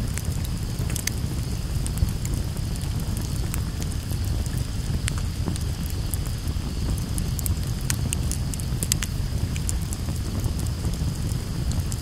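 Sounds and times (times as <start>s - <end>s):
campfire crackling and popping: 0.0s - 12.0s
low fire rumble: 0.0s - 12.0s.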